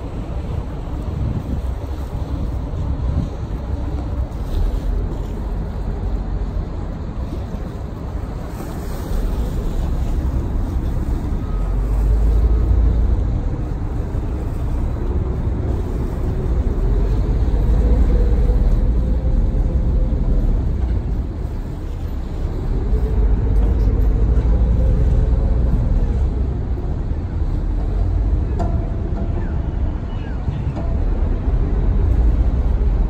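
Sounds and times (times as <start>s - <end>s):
large engine rumble: 0.0s - 33.0s
wind noise on microphone: 0.0s - 33.0s.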